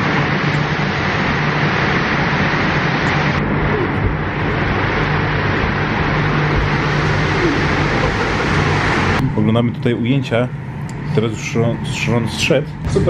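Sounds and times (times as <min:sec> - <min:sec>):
fans and air conditioning blowing: 0:00.0 - 0:13.0
low hum: 0:00.0 - 0:13.0.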